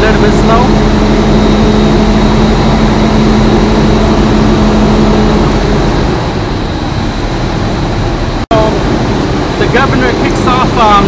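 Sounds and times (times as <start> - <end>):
air compressor running: 0.0 - 11.0
diesel engine at high idle: 0.0 - 11.0
steady tone: 0.0 - 11.0.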